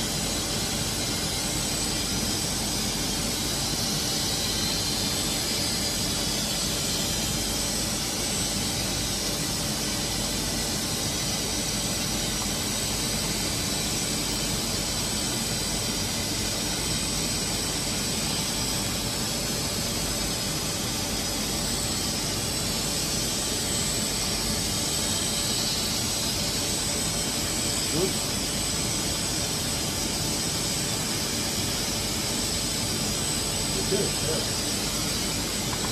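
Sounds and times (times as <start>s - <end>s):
high-pitched whine: 0.0s - 35.9s.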